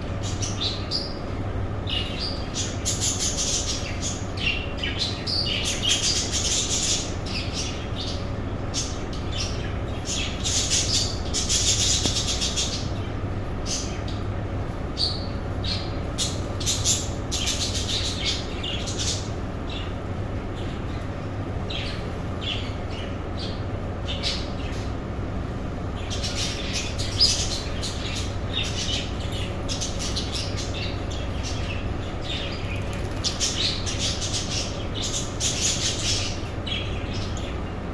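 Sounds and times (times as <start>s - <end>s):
birds chattering and chirping: 0.0s - 37.9s
steady low hum: 0.0s - 37.9s.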